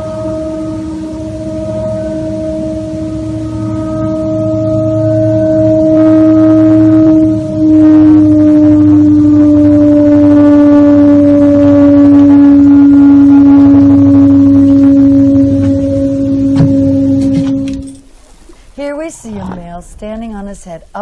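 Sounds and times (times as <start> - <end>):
deep sustained horn tone: 0.0 - 18.2
low hum: 0.0 - 21.0.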